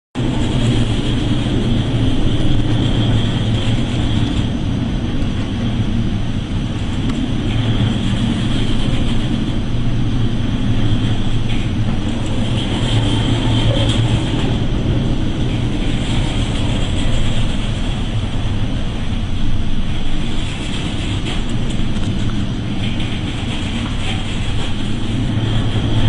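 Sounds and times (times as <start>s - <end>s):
ship engine drone: 0.2s - 26.0s
wind and sea rushing: 0.2s - 26.0s.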